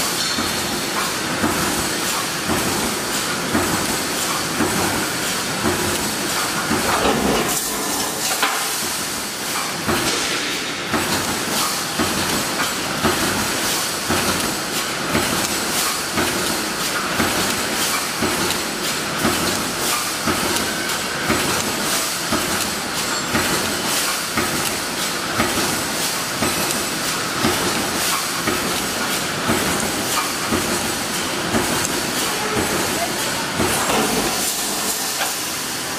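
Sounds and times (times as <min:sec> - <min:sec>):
welding machine clattering: 0:00.0 - 0:35.9.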